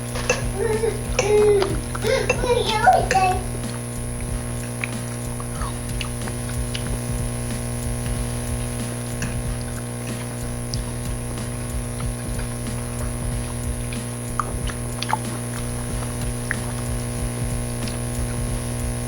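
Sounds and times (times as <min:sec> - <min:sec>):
eating smacking sounds: 0:00.0 - 0:19.0
electrical hum: 0:00.0 - 0:19.0.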